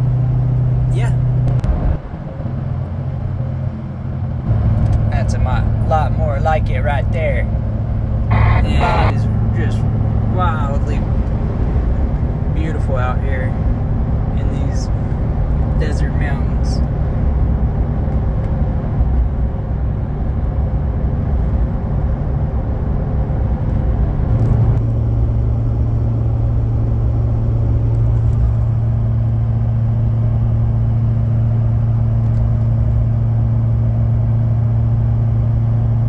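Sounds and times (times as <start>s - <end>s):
engine and road rumble: 0.0s - 36.0s
steady low drone: 0.0s - 36.0s.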